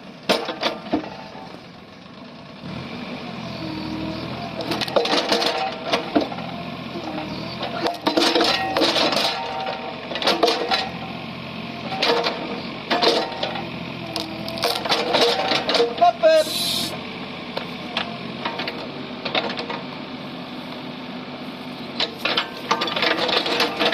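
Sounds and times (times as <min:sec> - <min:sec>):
excavator clattering: 0:00.0 - 0:02.5, 0:03.3 - 0:23.9
excavator engine running: 0:00.0 - 0:23.9.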